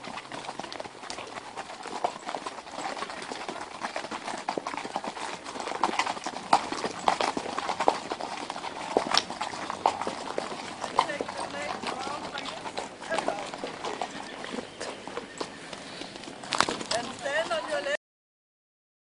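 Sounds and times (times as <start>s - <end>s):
horse hooves on gravel: 0.0s - 18.0s.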